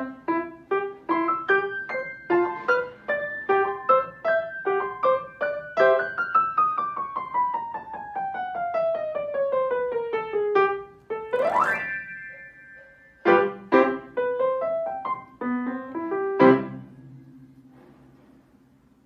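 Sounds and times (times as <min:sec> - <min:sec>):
upright piano playing: 0:00.0 - 0:17.1.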